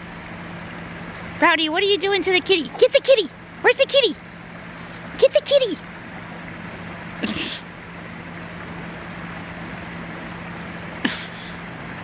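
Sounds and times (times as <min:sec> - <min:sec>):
outdoor background noise: 0:00.0 - 0:12.0
steady low hum: 0:00.0 - 0:12.0.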